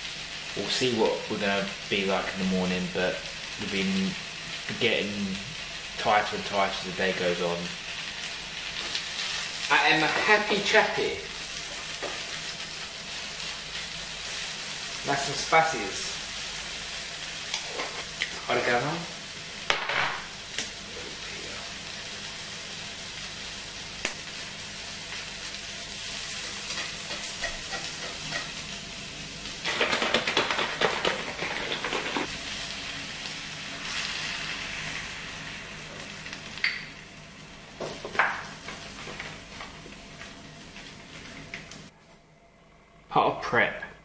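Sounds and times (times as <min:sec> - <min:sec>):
spinach sizzling in a pan: 0:00.0 - 0:42.0.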